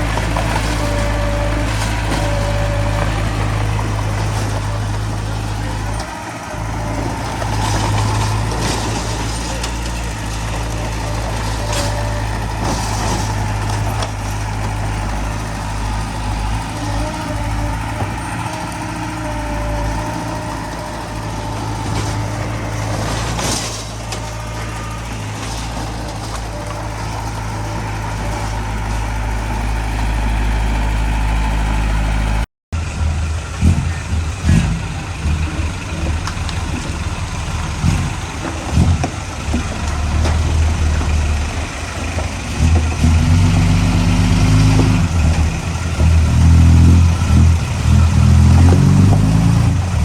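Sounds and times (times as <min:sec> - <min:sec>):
heavy diesel machinery engine: 0:00.0 - 0:50.0.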